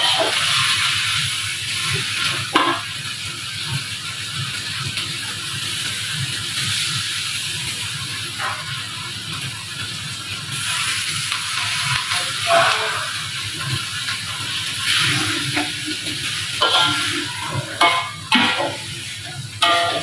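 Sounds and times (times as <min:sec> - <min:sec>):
greens sizzling in wok: 0:00.0 - 0:20.0
low burner rumble: 0:00.0 - 0:20.0.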